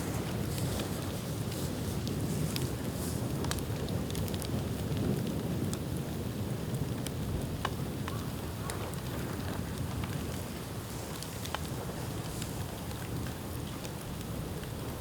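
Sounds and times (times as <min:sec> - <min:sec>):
bamboo bonfire crackling and popping: 0:00.0 - 0:15.0
fire low rumble: 0:00.0 - 0:15.0.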